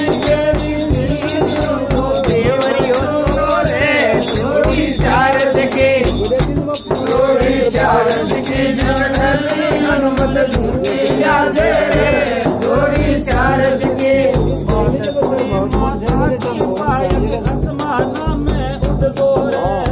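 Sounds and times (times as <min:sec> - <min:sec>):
frame drum beat: 0:00.0 - 0:19.9
rattling percussion: 0:00.0 - 0:19.9
voices singing folk song: 0:00.0 - 0:19.9.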